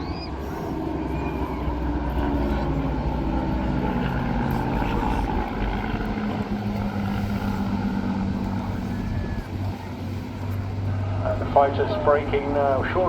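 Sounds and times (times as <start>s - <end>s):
propeller aircraft drone: 0.0s - 13.0s.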